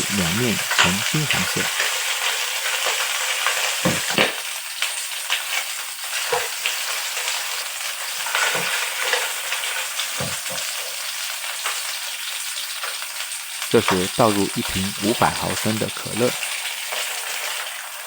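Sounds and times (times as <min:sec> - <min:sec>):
chicken wings sizzling in oil: 0:00.0 - 0:18.0.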